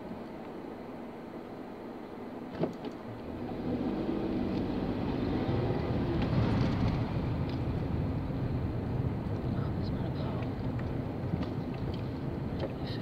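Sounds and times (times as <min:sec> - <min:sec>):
car engine and tyre noise: 0:00.0 - 0:13.0
oncoming car passing: 0:02.4 - 0:13.0.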